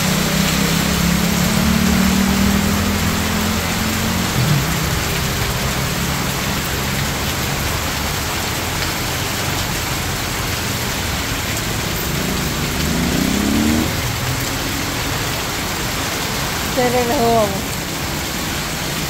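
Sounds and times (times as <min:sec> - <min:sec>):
car engine: 0:00.0 - 0:19.0
heavy rain on road: 0:00.0 - 0:19.0
vehicle accelerating on wet road: 0:00.0 - 0:19.0.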